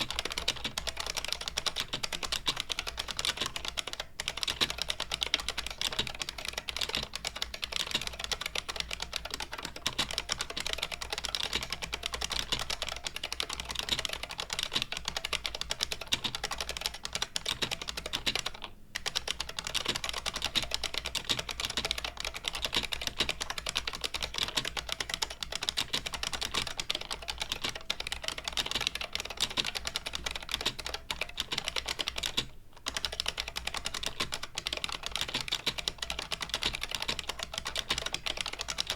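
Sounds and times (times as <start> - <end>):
clicky keyboard typing: 0.0 - 38.9.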